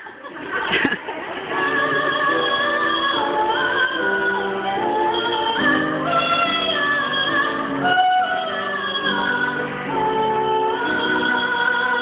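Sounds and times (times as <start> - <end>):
woman singing operatically: 1.5 - 12.0.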